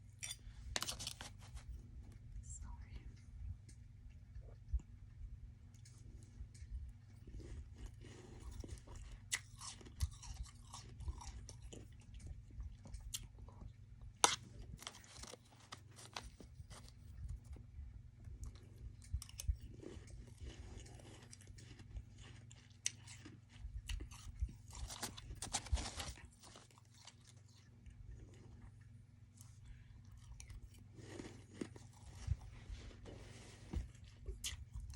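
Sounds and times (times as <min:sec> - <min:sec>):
chewing and crunching ice: 0:05.6 - 0:34.9.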